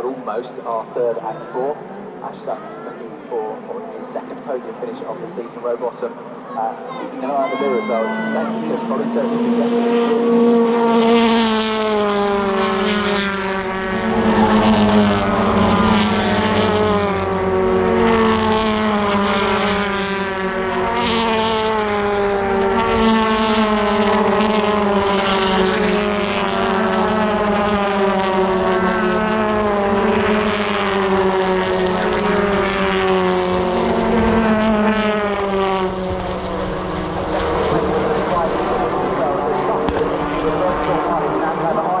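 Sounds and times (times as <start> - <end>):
race cars passing at speed: 0.0 - 42.0.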